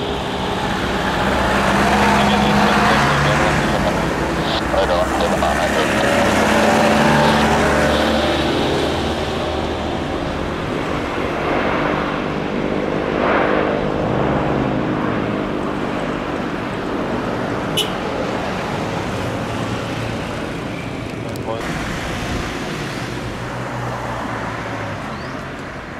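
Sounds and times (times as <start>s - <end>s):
jet engines rolling on runway: 0.0s - 25.9s.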